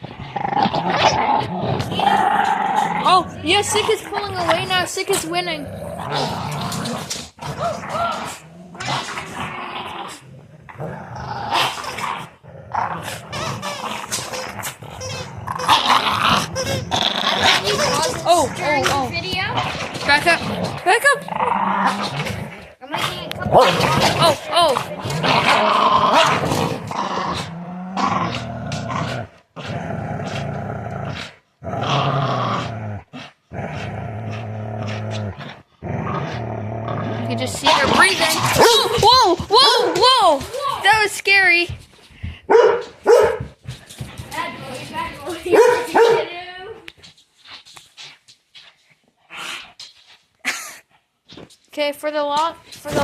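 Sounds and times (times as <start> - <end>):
dogs growling: 0.0 - 50.6, 52.6 - 53.0.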